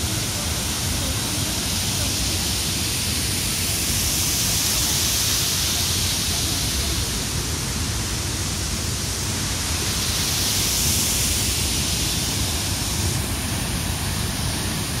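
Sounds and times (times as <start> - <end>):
stream and waterfall rushing: 0.0 - 15.0.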